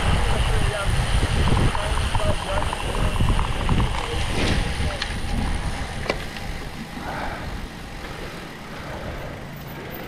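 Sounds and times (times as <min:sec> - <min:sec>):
bike rolling over gravel: 0:00.0 - 0:10.0
wind: 0:00.0 - 0:10.0.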